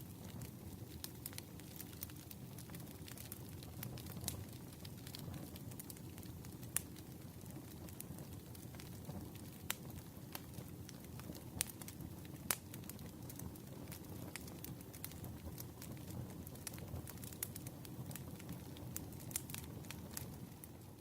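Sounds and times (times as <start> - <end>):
campfire crackling and popping: 0.0 - 21.0
low rumble of flames: 0.0 - 21.0.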